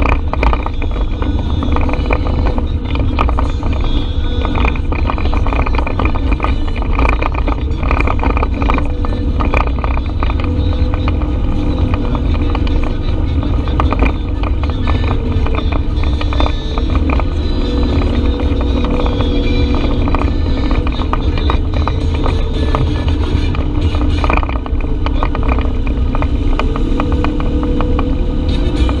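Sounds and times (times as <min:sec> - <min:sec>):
utility vehicle engine running: 0:00.0 - 0:29.0.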